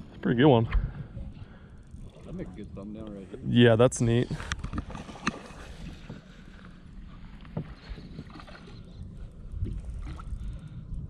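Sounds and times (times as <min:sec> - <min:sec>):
water lapping against boat hull: 0:00.0 - 0:03.4, 0:04.2 - 0:11.0
low wind rumble: 0:00.0 - 0:11.0.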